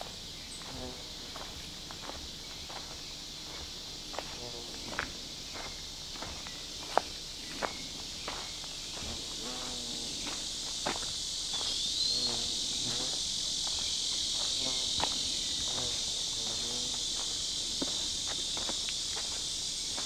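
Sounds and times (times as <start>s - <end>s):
insects trilling: 0.0s - 20.0s
footsteps on dirt path: 0.6s - 20.0s.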